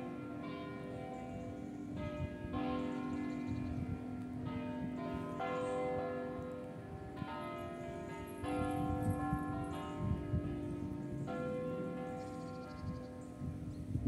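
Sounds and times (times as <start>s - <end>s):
large church bells pealing: 0.0s - 14.0s.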